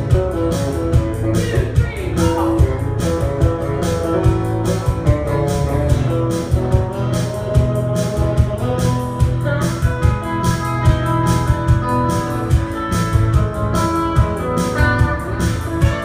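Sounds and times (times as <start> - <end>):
electric bass: 0.0 - 16.0
electric guitar: 0.0 - 16.0
steady beat: 0.0 - 16.0
strummed acoustic guitar: 0.0 - 16.0.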